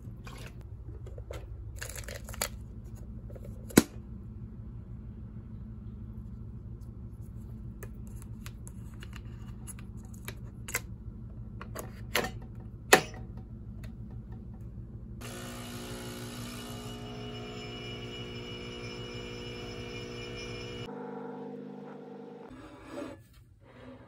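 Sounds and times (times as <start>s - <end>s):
steady low hum: 0.0s - 22.5s.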